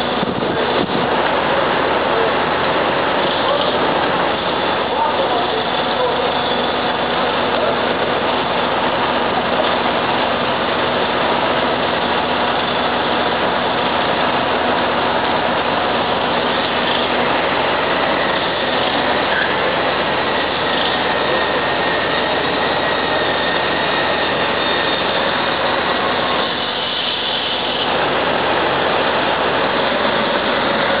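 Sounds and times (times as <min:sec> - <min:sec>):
bulldozer diesel engine: 0:00.0 - 0:31.0
dump truck diesel engine: 0:00.0 - 0:31.0.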